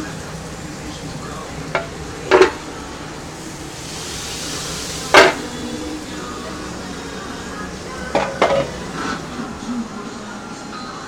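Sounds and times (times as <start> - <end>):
burger sizzling on a grill: 0.0 - 10.8.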